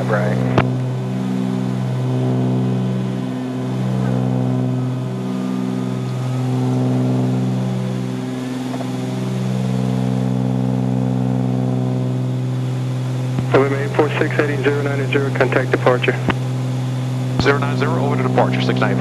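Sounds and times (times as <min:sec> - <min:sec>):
piston aircraft engines droning: 0:00.0 - 0:19.0.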